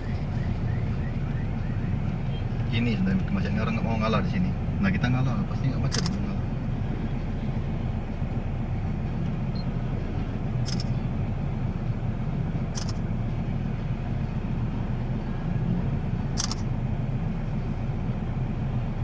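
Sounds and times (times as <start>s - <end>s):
car engine idling: 0.0s - 19.0s
street traffic: 0.0s - 19.0s.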